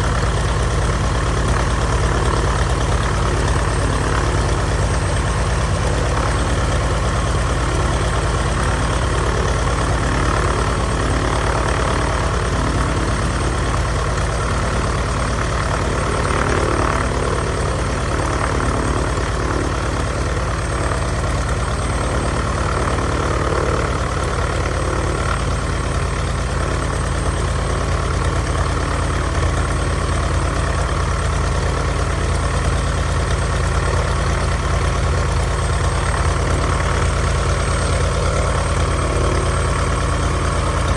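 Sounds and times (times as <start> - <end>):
propeller aircraft engine running: 0.0 - 40.9.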